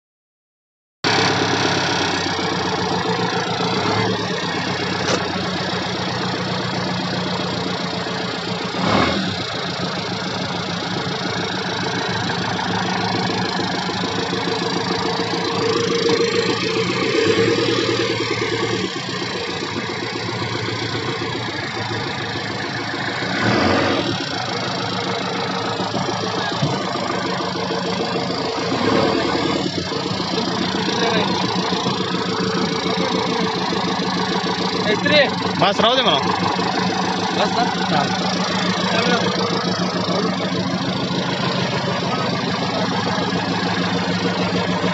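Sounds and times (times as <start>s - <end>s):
diesel engine idling: 1.0s - 44.9s.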